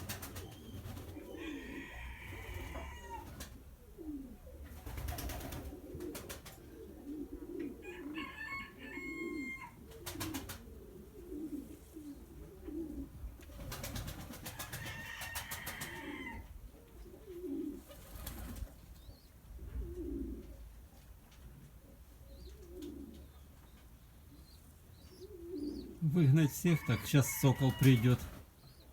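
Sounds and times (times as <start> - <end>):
pigeons cooing: 0.0 - 28.9.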